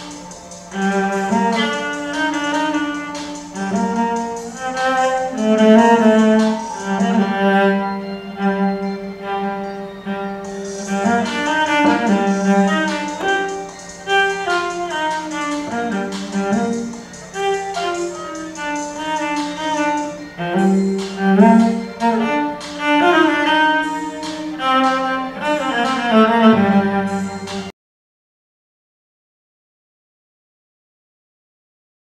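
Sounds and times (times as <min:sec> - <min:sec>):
bowed cello melody: 0:00.0 - 0:27.7
sustained low drone note: 0:00.0 - 0:27.7.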